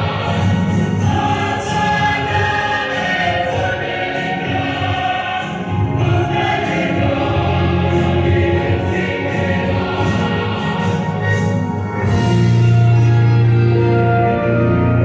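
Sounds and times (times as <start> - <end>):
choir singing sustained notes: 0.0 - 15.0
instrumental accompaniment: 0.0 - 15.0.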